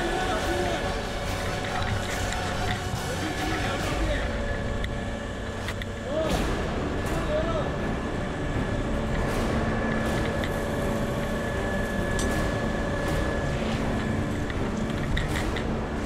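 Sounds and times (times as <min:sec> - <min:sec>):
fire truck engine and pump drone: 0:00.0 - 0:16.0.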